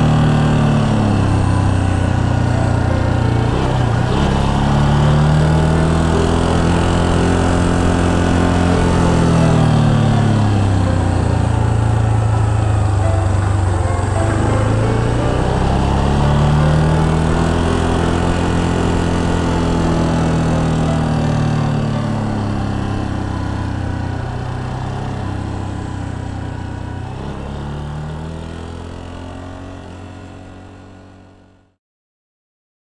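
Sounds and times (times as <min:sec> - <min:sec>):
motorcycle engine revving: 0:00.0 - 0:31.7.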